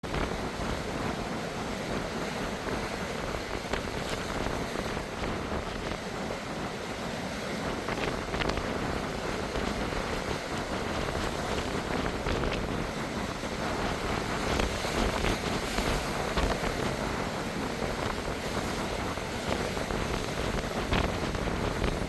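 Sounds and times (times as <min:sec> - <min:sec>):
sea washing: 0:00.0 - 0:22.0
wind buffeting microphone: 0:00.0 - 0:22.0.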